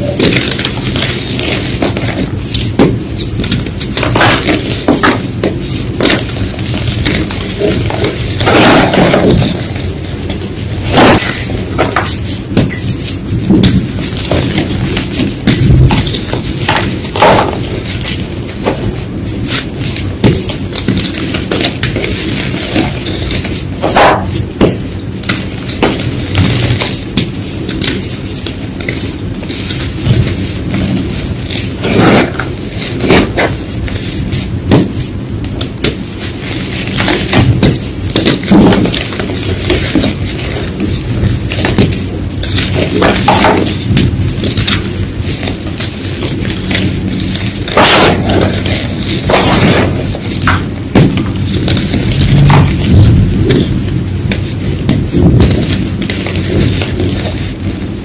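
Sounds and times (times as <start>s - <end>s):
chalk blocks being crushed: 0.0s - 57.6s.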